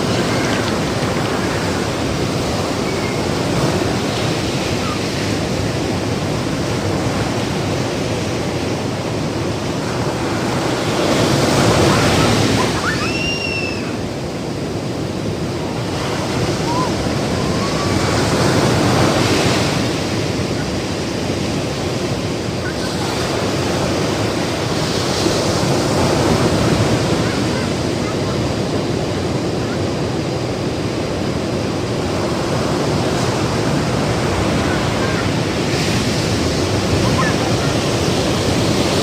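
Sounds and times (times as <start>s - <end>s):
ocean surf breaking: 0.0s - 39.0s.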